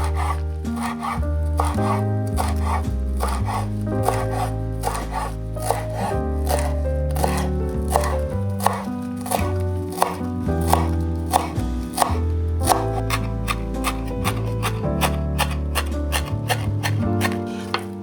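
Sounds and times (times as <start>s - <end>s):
background music with bass notes: 0.0s - 18.0s
knife chopping on cutting board: 0.0s - 18.0s.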